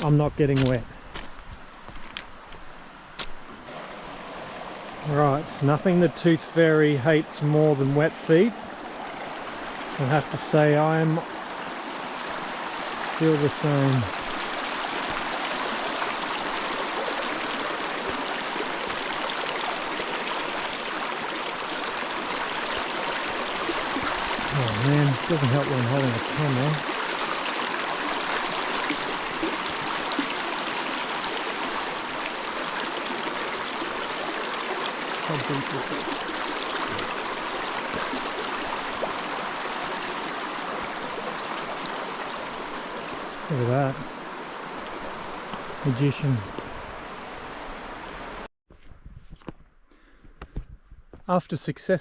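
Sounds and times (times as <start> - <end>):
river water rushing: 2.8 - 48.5.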